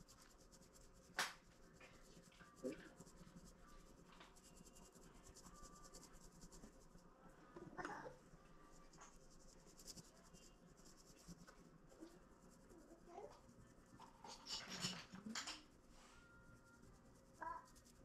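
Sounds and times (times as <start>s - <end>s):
faint scratching: 0.0s - 18.0s.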